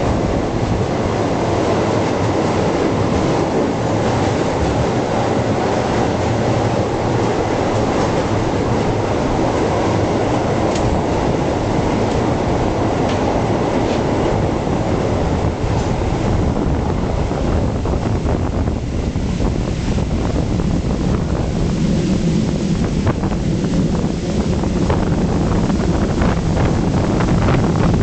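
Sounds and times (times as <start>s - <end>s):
train wheels clattering on rails: 0.0s - 28.0s
wind rush on microphone: 0.0s - 28.0s.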